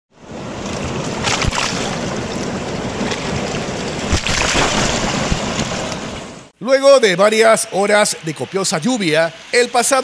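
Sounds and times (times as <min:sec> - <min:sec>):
floodwater rushing: 0:00.2 - 0:10.0.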